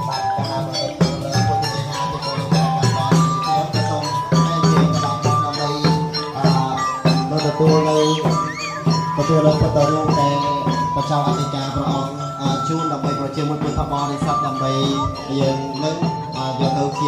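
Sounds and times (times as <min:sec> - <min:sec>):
held melodic notes: 0:00.0 - 0:17.0
jingling percussion: 0:00.0 - 0:17.0
struck percussion beat: 0:00.0 - 0:17.0.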